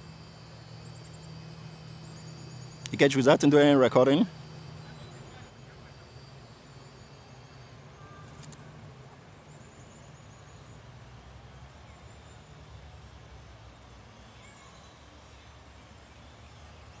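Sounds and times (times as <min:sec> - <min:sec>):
faint high chirps: 0:00.0 - 0:08.8, 0:09.4 - 0:17.0.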